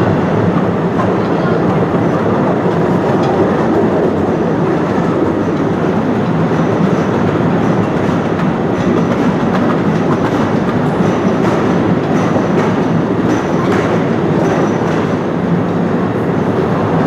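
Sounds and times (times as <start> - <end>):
train wheels rolling on rail: 0.0 - 17.0.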